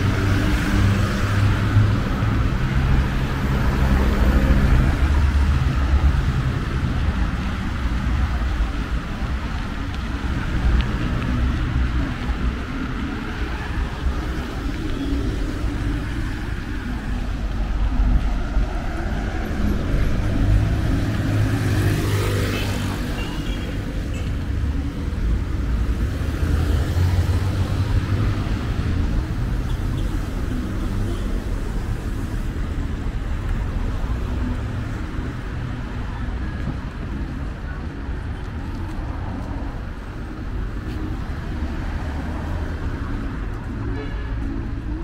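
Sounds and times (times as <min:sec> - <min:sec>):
rumble of road traffic: 0:00.0 - 0:45.0.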